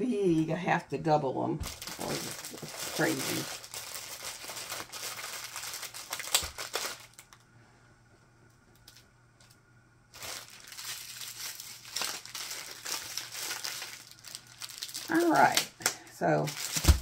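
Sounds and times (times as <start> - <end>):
plastic crinkling: 1.6 - 7.5, 8.7 - 17.0.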